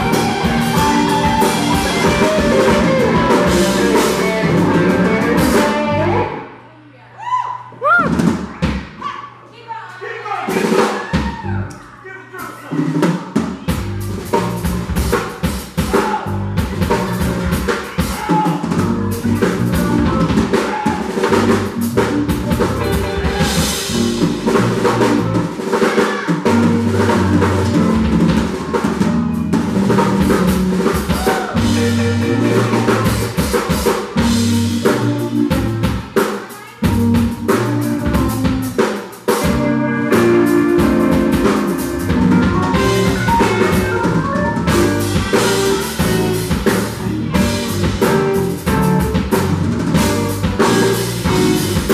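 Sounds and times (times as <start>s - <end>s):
drum kit playing: 0.0s - 6.5s, 7.8s - 9.0s, 10.5s - 11.7s, 12.5s - 51.9s
bass guitar line: 0.0s - 6.6s, 13.6s - 36.2s, 36.8s - 51.9s.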